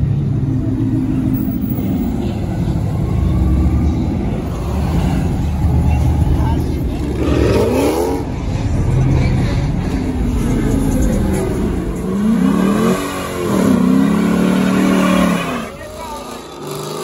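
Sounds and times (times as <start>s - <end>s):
car burnout: 0.0s - 17.0s
car engines revving: 0.0s - 17.0s.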